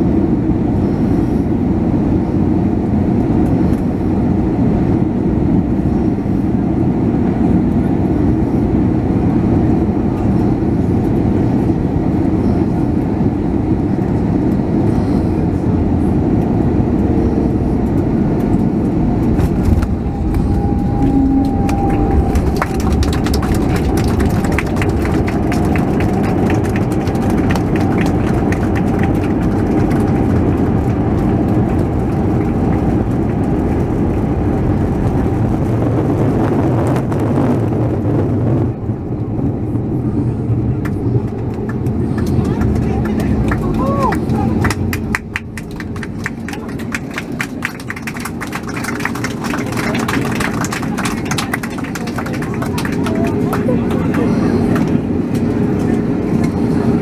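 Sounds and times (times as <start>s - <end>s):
aircraft engine and rolling rumble: 0.0s - 57.0s
steady whine: 0.0s - 57.0s.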